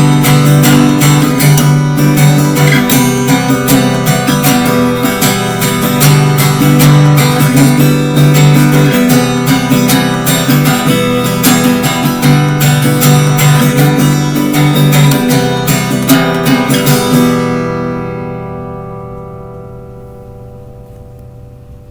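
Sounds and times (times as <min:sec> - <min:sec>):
acoustic guitar strumming: 0:00.0 - 0:21.9.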